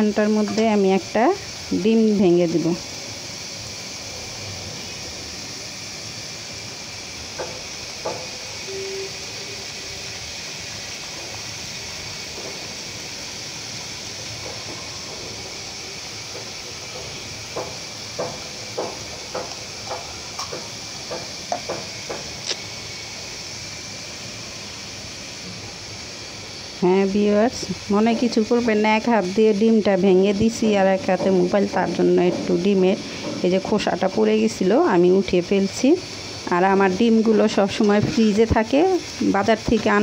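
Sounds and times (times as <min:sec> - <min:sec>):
gourd sizzling in oil: 0:00.0 - 0:40.0.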